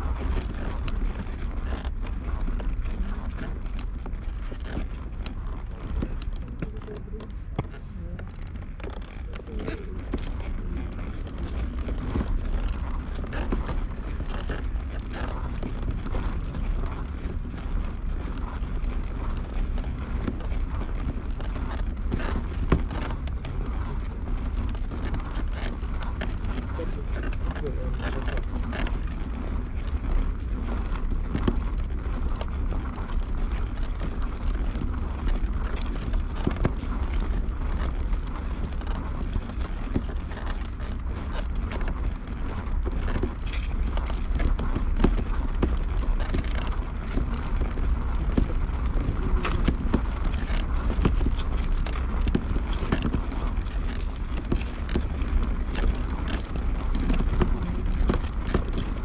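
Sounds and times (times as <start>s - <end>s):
footsteps on pavement: 0.0s - 59.0s
wind rumble on microphone: 0.0s - 59.0s.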